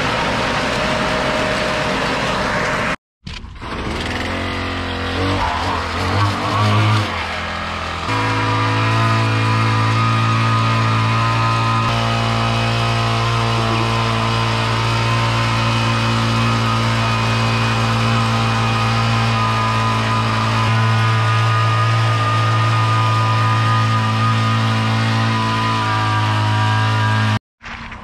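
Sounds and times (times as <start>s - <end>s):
small gas engine running: 0.0s - 27.4s.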